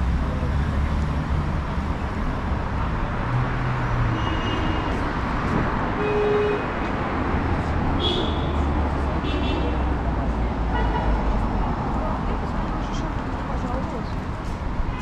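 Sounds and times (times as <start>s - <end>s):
city street traffic: 0.0s - 15.0s.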